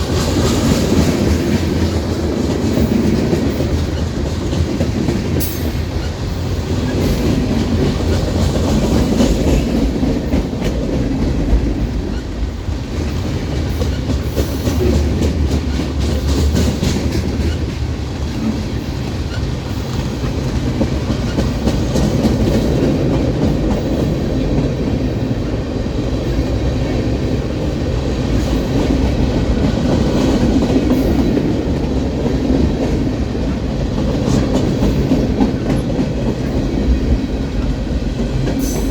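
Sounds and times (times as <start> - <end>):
train cars rumbling: 0.0 - 38.9
wheels clicking over rail joints: 0.0 - 38.9.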